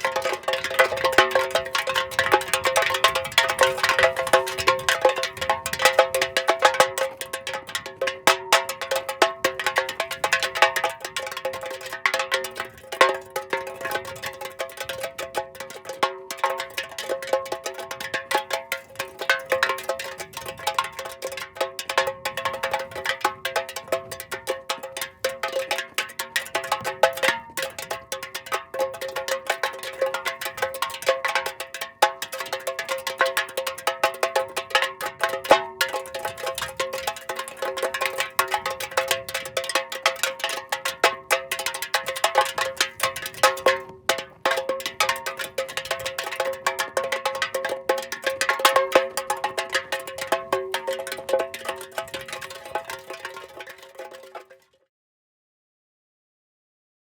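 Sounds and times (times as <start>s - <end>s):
metal can rolling on ground: 0.0s - 54.7s.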